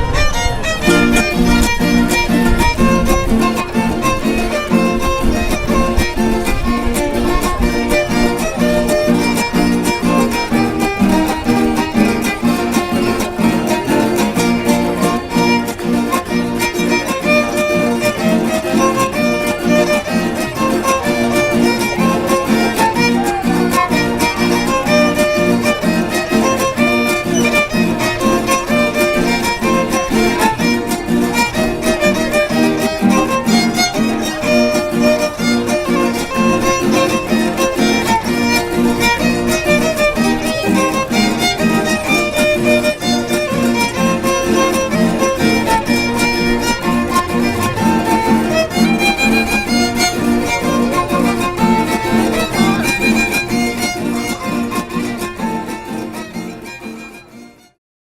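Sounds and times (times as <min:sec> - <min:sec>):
strummed rhythm: 0:00.0 - 0:57.8
violin melody: 0:00.0 - 0:57.8.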